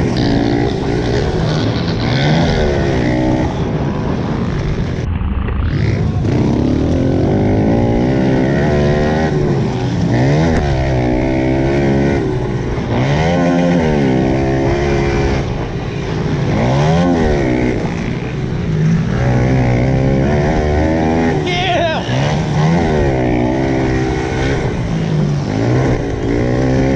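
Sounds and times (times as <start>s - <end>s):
pit bike engines revving: 0.0s - 26.9s.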